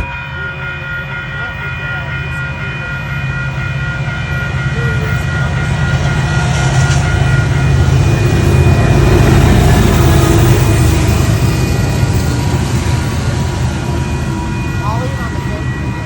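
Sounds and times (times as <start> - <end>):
electronic crossing bell ringing: 0.0 - 16.0
train rumble: 0.0 - 16.0.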